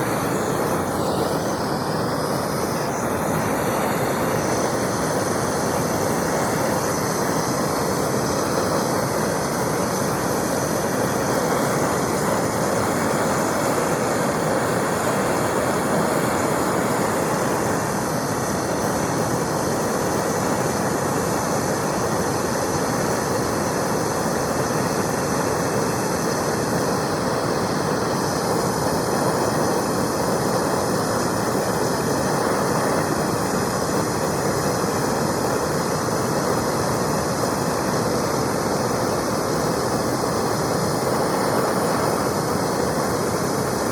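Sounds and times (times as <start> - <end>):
gas torch hissing: 0.0 - 43.9.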